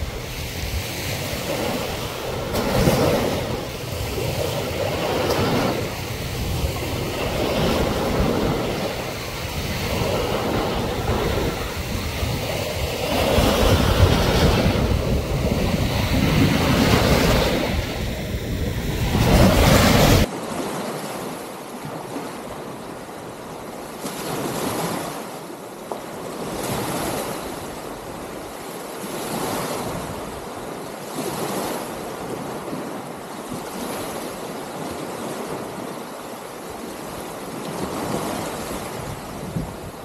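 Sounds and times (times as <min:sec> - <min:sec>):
wind on microphone: 0:00.0 - 0:20.3, 0:26.2 - 0:36.0, 0:36.6 - 0:40.0
small waves breaking on sand: 0:00.0 - 0:40.0.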